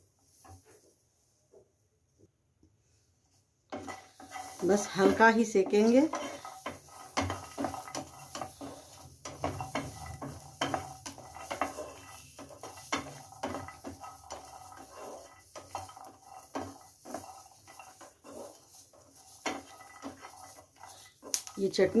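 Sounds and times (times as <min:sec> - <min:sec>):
spatula scraping garlic in pan: 0:03.7 - 0:22.0.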